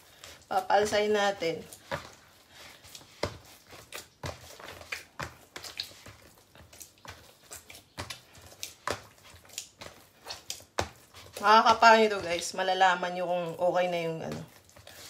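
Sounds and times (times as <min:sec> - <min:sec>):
dough slapping and squelching: 0:00.0 - 0:15.0.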